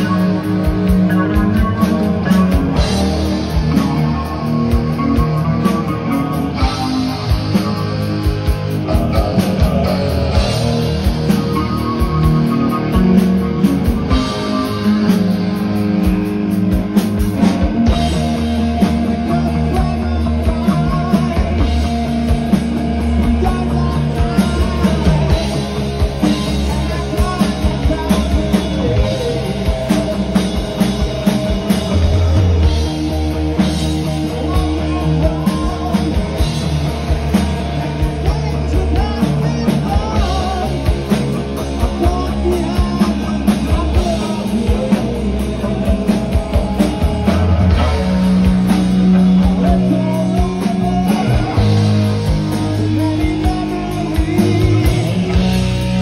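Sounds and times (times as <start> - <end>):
distorted electric guitar: 0.0 - 56.0
drum kit beat: 0.0 - 56.0
electric bass: 0.0 - 56.0.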